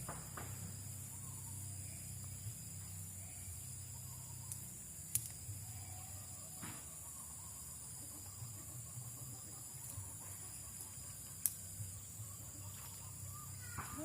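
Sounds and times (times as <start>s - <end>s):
high-pitched insect trilling: 0.0s - 14.0s.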